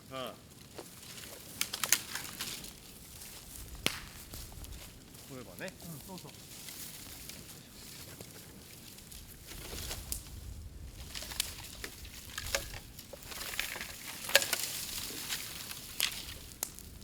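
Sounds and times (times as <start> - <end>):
bamboo crackling in bonfire: 0.0 - 17.0
sharp pops of burning bamboo: 0.6 - 7.4, 9.0 - 17.0.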